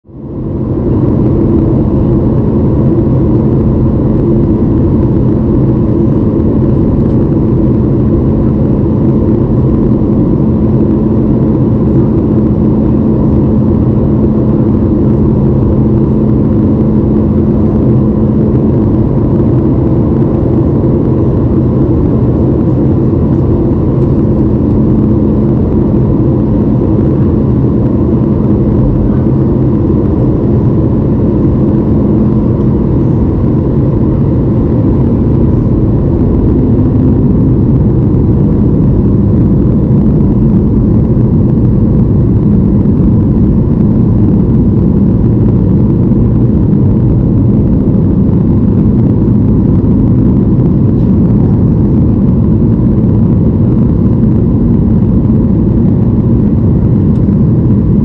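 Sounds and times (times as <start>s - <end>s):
airplane cabin drone: 0.0s - 58.0s
low hum tones: 0.0s - 58.0s.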